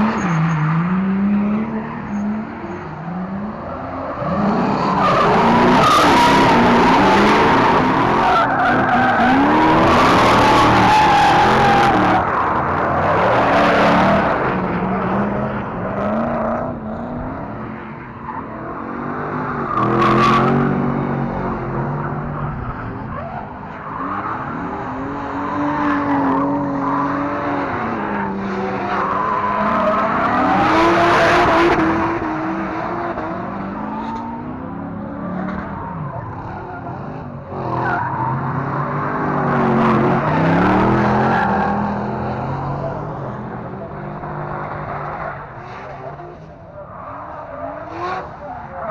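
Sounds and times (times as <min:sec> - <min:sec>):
car engines revving: 0:00.0 - 0:48.9.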